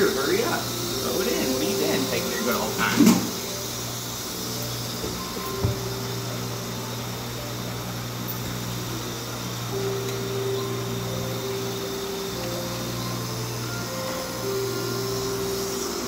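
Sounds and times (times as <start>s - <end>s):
faint background music: 0.0s - 16.0s
steady low hum: 0.0s - 16.0s.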